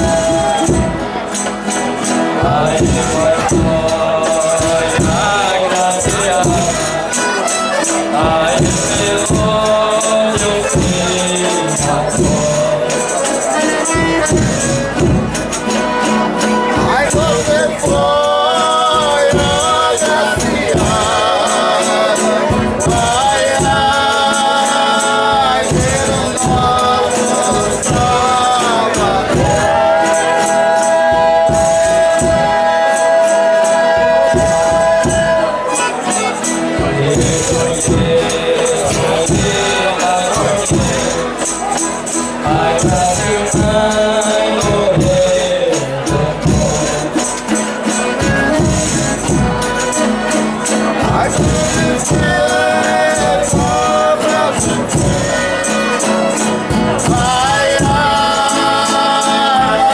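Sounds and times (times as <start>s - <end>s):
drum beating steady rhythm: 0.0s - 59.9s
tambourine jingles: 0.0s - 59.9s
voices singing in harmony: 0.0s - 59.9s.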